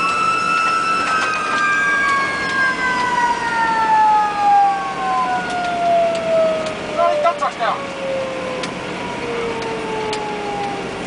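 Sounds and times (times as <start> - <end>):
fire engine siren winding down: 0.0 - 11.0.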